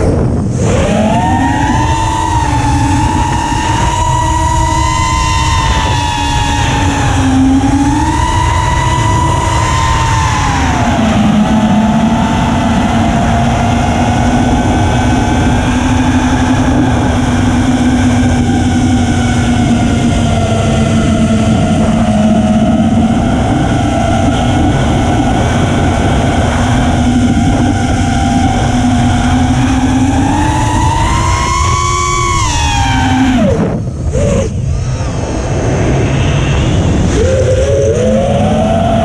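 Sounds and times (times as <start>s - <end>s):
drone motors whining: 0.0s - 39.0s
wind on microphone: 0.0s - 39.0s.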